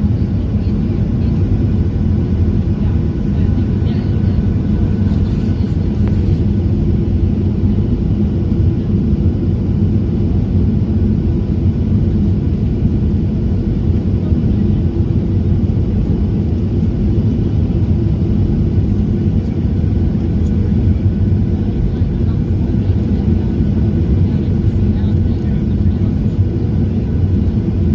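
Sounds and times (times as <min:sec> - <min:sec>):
jet cabin engine rumble: 0:00.0 - 0:27.9.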